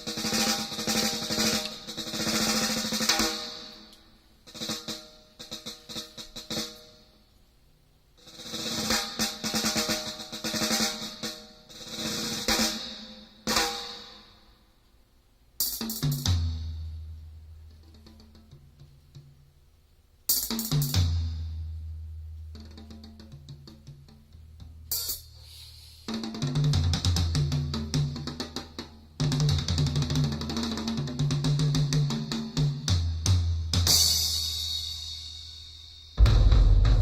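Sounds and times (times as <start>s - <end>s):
drum music through loudspeaker: 0.0s - 7.1s, 8.2s - 14.3s, 15.6s - 17.2s, 20.3s - 37.0s.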